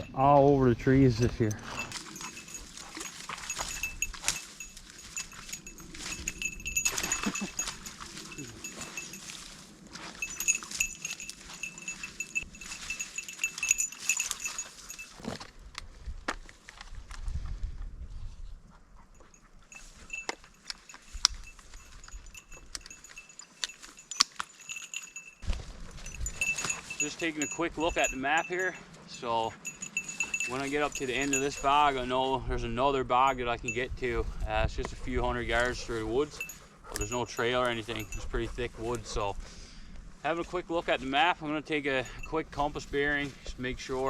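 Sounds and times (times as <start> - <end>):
dog collar jingling: 0.0 - 15.4, 19.1 - 32.4, 33.1 - 39.4, 40.3 - 44.0.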